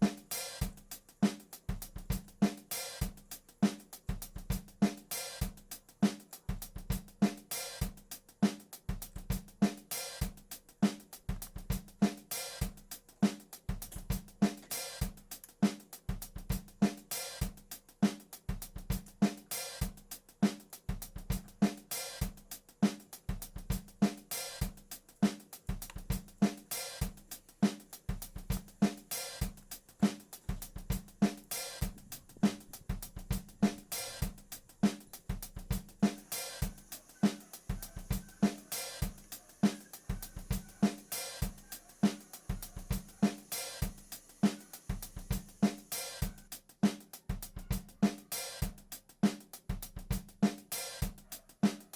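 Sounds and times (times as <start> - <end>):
drum kit beat: 0.0 - 51.9.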